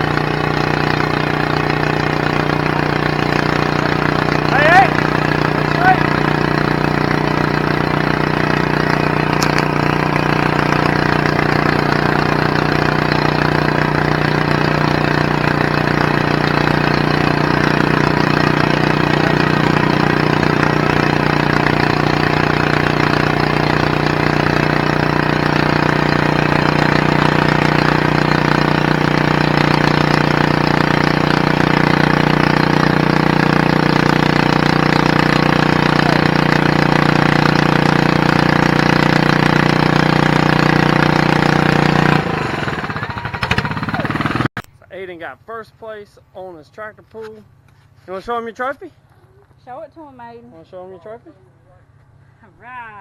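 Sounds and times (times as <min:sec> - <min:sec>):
tractor engine running: 0:00.0 - 0:44.8.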